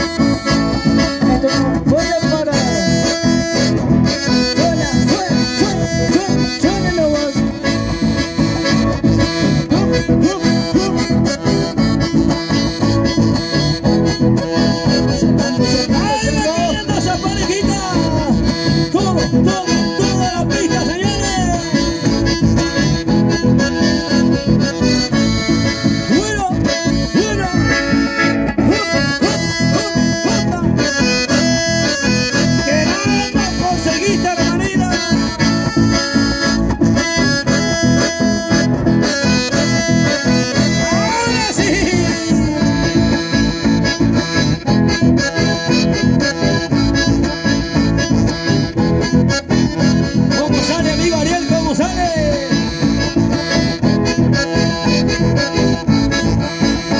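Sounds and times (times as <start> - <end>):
accordions playing: 0.0 - 56.9
strummed acoustic guitars: 0.0 - 56.9.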